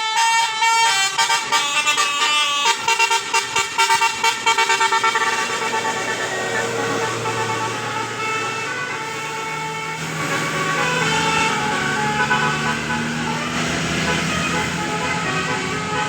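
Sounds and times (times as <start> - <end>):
bus musical horn playing tune: 0.0 - 16.0.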